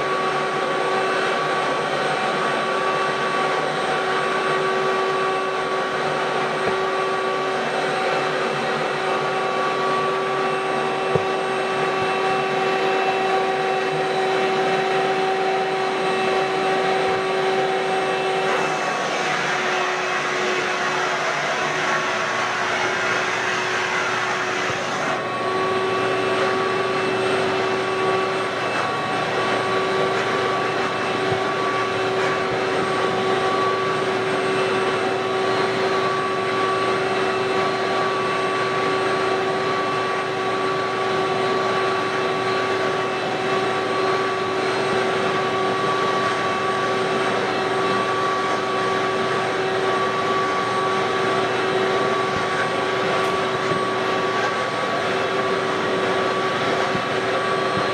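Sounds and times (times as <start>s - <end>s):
shop vacuum running: 0.0s - 57.9s.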